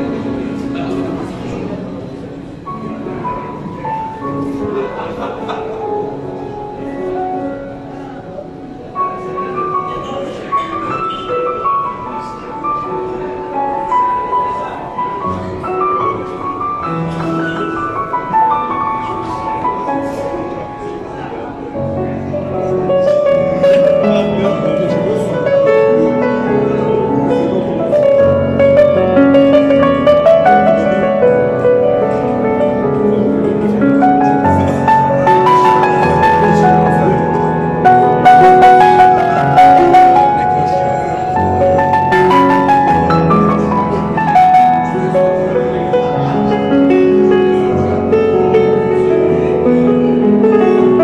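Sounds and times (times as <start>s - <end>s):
low piano chords: 0.0s - 51.0s
slow piano melody: 0.0s - 51.0s.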